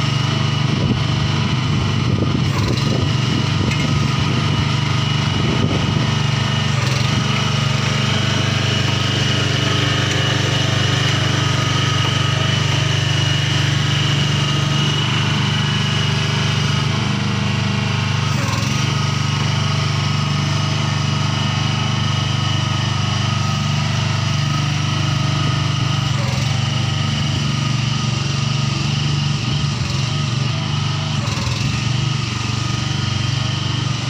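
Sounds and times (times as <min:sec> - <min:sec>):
small petrol engine running: 0:00.0 - 0:34.0.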